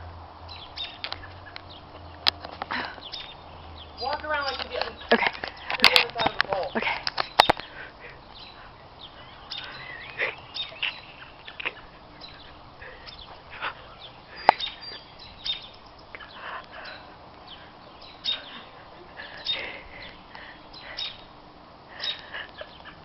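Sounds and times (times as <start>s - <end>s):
birds chirping and calling: 0.4s - 23.0s.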